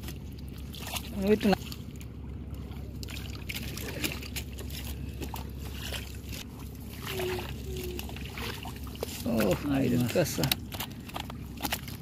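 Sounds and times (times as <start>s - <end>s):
hands splashing in muddy water: 0.0s - 12.0s
steady low rumble: 0.0s - 12.0s.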